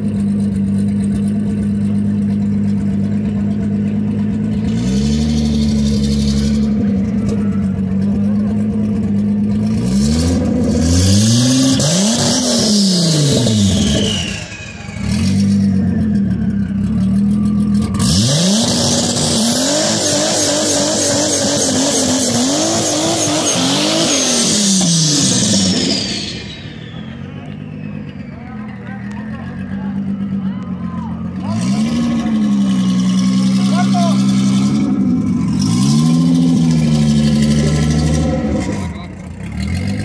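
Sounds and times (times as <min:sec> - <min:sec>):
car engine revving: 0:00.0 - 0:40.0
car pulling away: 0:00.0 - 0:40.0.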